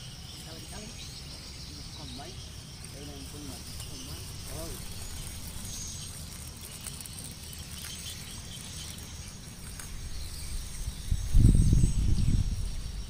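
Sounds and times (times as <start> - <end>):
high insect trilling: 0.0 - 13.0.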